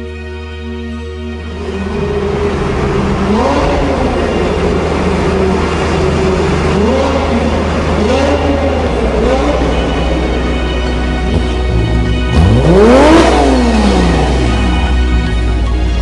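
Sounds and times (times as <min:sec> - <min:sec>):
car engine revving: 0:01.4 - 0:16.0.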